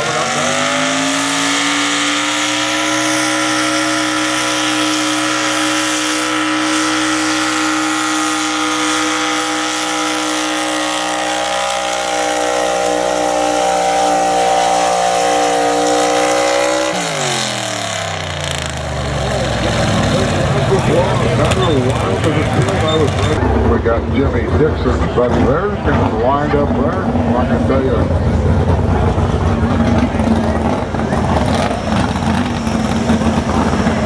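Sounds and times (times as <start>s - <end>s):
truck engine at high revs: 0.0s - 34.0s.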